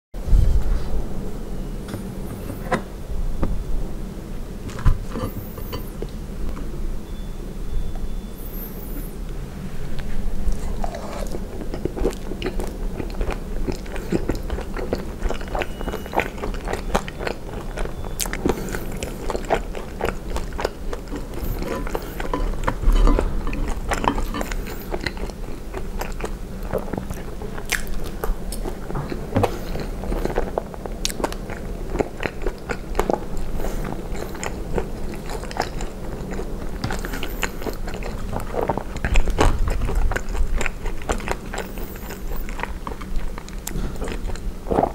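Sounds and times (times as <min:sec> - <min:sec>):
chewing with wet mouth sounds: 0:04.7 - 0:07.2, 0:07.8 - 0:44.9.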